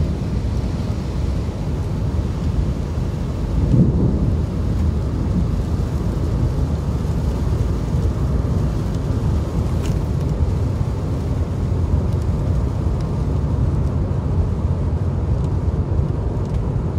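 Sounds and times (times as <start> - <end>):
car driving low rumble: 0.0 - 16.9
tyre noise on wet road: 0.0 - 16.9.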